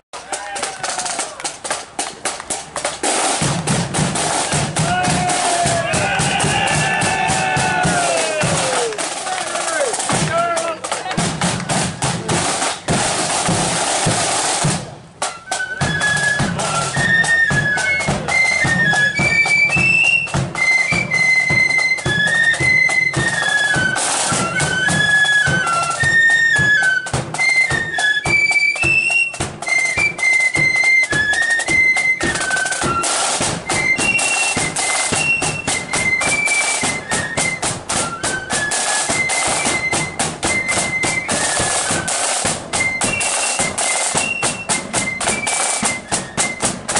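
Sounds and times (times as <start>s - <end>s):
drum roll: 0.2s - 46.9s
marching flute band: 0.2s - 46.9s
snare and bass drums: 0.2s - 46.9s.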